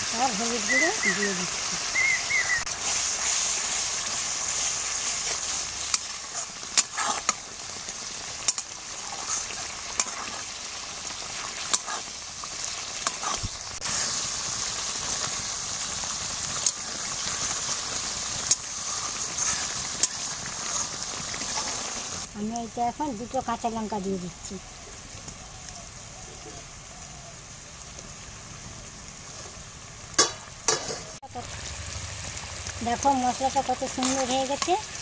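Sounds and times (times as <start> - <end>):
spices sizzling in a metal pan: 0.0 - 35.0.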